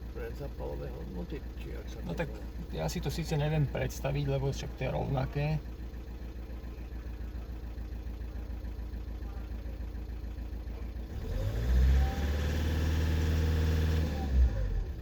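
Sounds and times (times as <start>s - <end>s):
diesel engine idling and revving: 0.0s - 15.0s.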